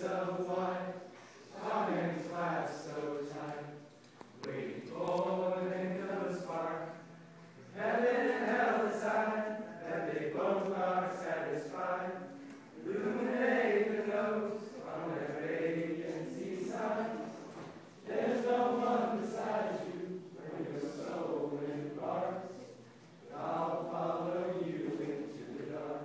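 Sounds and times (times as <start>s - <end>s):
young men singing together: 0.0s - 3.8s, 7.8s - 22.7s, 23.3s - 26.0s.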